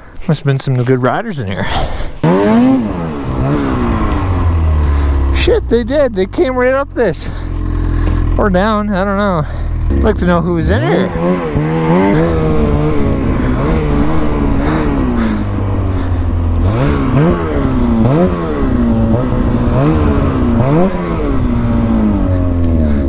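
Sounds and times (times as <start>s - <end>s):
snowmobile engine revving: 1.6s - 23.0s.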